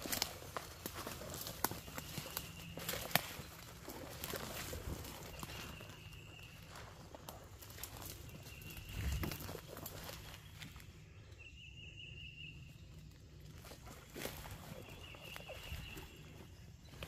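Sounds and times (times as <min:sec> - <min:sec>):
footsteps crunching through leaves: 0:00.0 - 0:10.9, 0:13.6 - 0:17.0.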